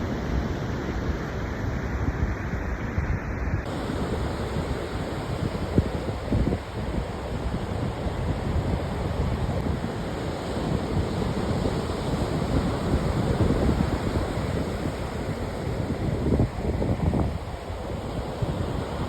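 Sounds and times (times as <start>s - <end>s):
wind buffeting microphone: 0.0s - 19.0s
ocean surf washing: 3.6s - 19.0s.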